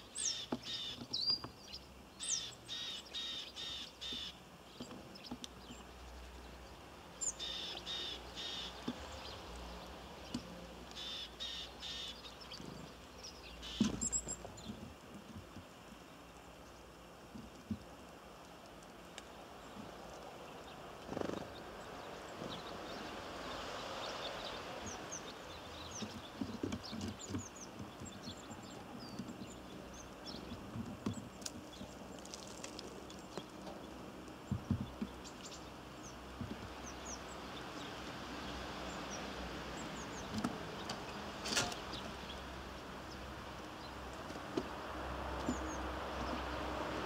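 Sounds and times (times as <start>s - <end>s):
outdoor background noise: 0.0s - 47.0s
small birds chirping: 0.0s - 47.0s.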